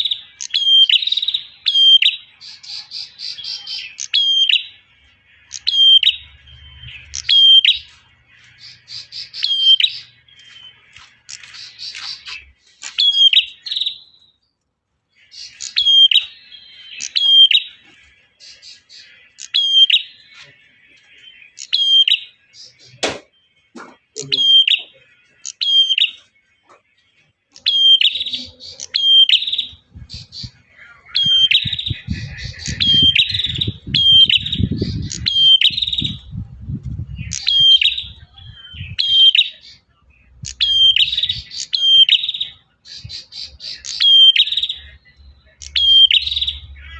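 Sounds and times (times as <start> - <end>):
bird sharp chirping calls: 0.0 - 14.5, 15.1 - 26.9, 27.5 - 46.9.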